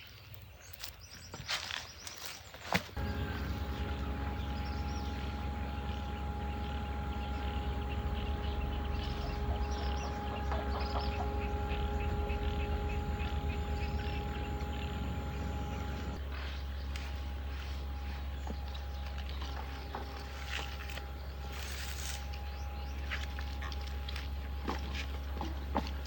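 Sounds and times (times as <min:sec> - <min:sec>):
small birds chirping: 0:00.0 - 0:25.4
motor humming and whining: 0:03.0 - 0:26.0.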